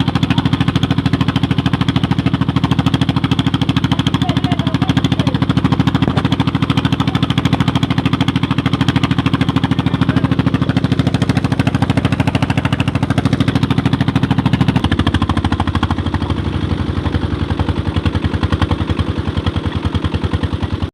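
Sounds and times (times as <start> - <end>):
diesel engine driving a pump: 0.0 - 20.9.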